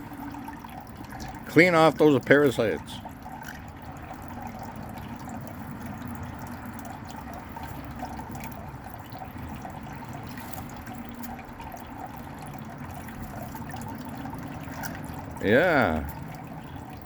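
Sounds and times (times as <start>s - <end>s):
fountain water trickling and splashing: 0.0s - 17.0s.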